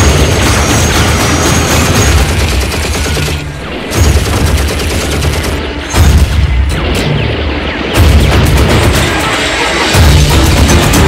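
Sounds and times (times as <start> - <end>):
rapid automatic gunfire: 0.0 - 6.2, 8.0 - 11.0.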